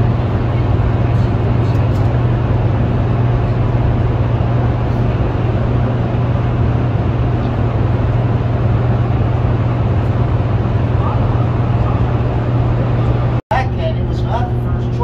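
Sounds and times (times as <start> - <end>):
generators humming and rumbling: 0.0 - 15.0.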